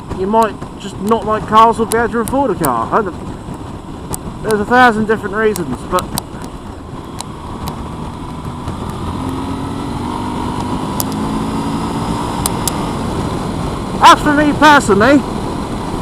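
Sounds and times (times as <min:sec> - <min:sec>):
vehicle road rumble: 0:00.0 - 0:16.0.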